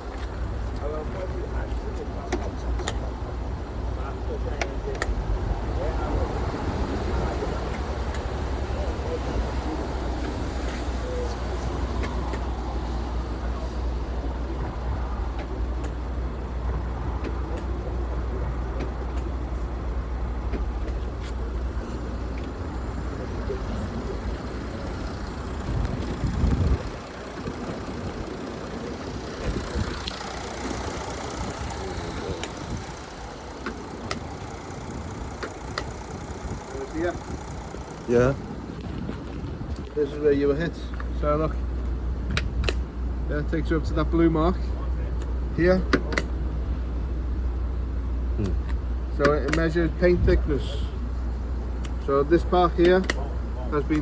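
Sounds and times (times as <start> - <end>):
low engine rumble: 0.0 - 54.0.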